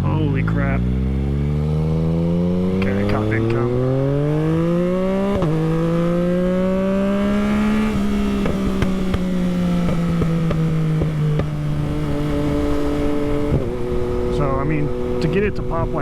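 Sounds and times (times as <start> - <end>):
exhaust popping on overrun: 0.0 - 16.0
motorcycle engine revving: 0.0 - 16.0.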